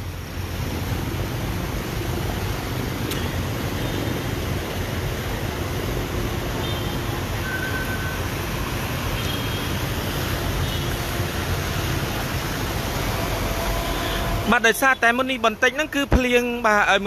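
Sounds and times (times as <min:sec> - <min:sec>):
floodwater rushing and churning: 0:00.0 - 0:17.0.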